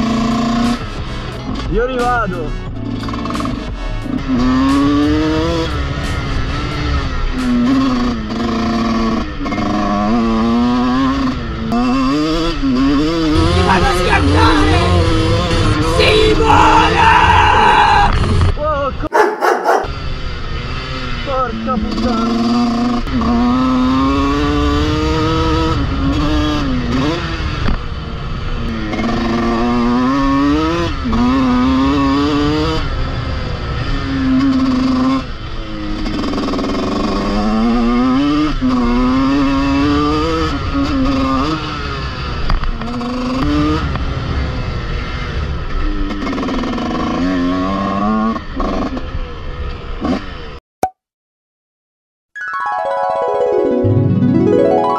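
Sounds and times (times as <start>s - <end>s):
motocross engine revving: 0.0s - 1.8s, 2.5s - 50.6s.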